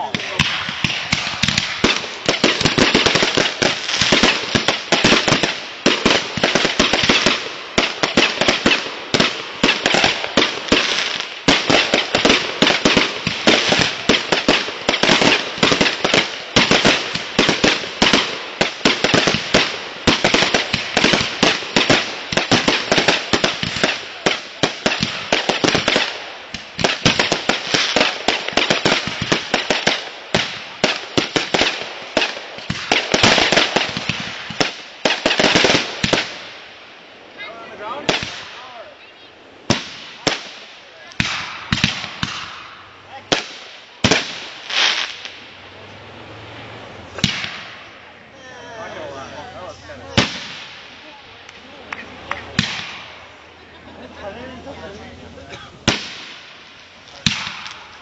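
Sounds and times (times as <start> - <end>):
firecrackers popping: 0.0 - 45.9, 46.6 - 48.3, 49.0 - 58.0.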